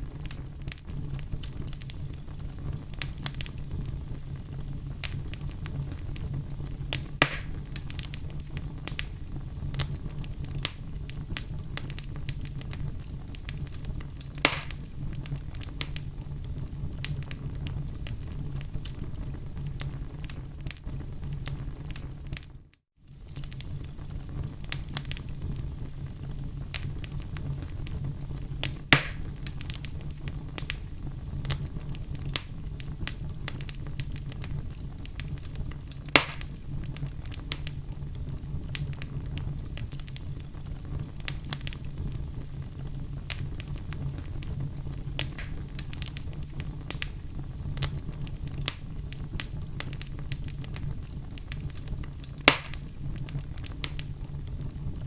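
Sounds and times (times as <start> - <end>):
fire crackling in a fireplace: 0.0 - 55.0
loud fire pops: 0.0 - 55.0.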